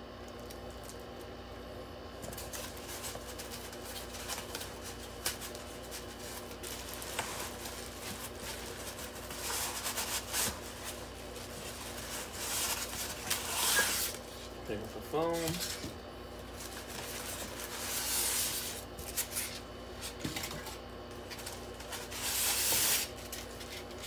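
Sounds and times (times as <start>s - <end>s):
packing material and cardboard rustling: 2.2s - 24.0s.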